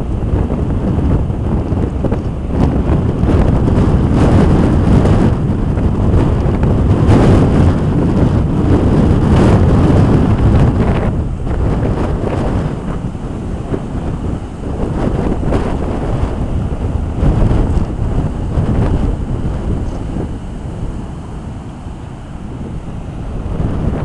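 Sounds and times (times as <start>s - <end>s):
heavy surf breaking on beach: 0.0s - 24.0s
strong wind buffeting microphone: 0.0s - 24.0s.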